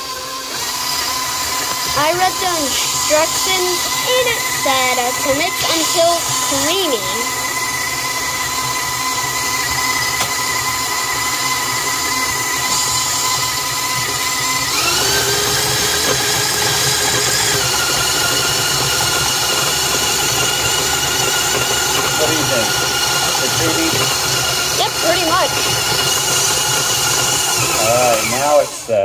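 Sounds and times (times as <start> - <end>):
electric mixer whining: 0.0 - 29.0.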